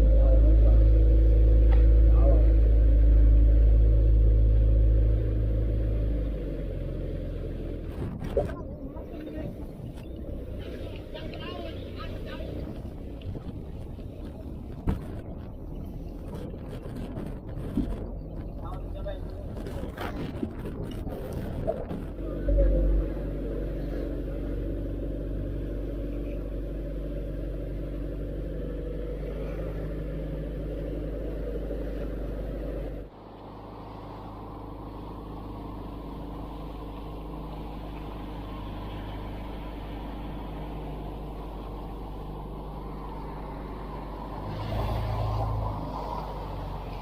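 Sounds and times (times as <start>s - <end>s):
boat motor droning: 0.0s - 47.0s.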